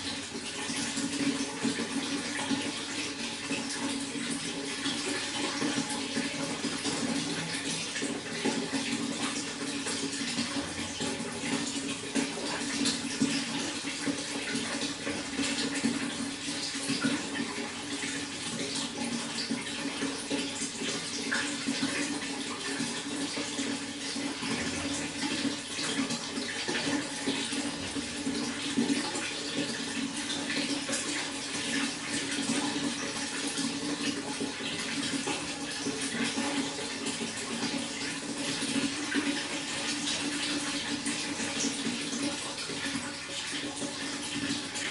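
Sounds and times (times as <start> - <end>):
running water flowing: 0.0 - 44.9.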